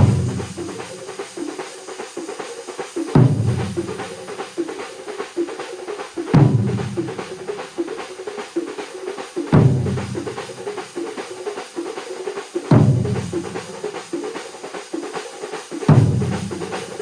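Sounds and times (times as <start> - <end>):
drum ensemble playing: 0.0 - 17.0.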